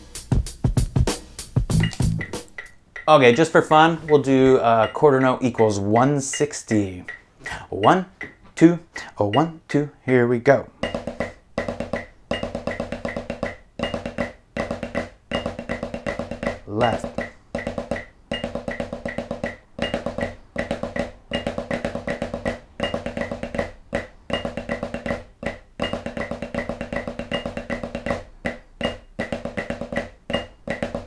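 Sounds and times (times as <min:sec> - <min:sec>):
snare drum played with sticks: 0:00.0 - 0:07.2, 0:10.8 - 0:31.0
metronome clicking: 0:00.0 - 0:31.0.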